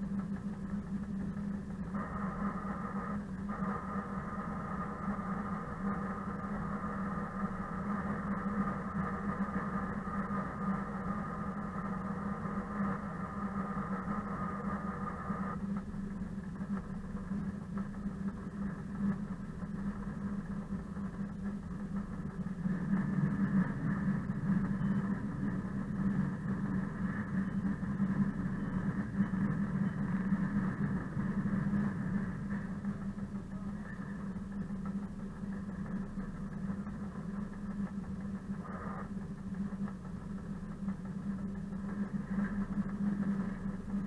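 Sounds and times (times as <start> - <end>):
diesel locomotive engine running: 0.0 - 44.0.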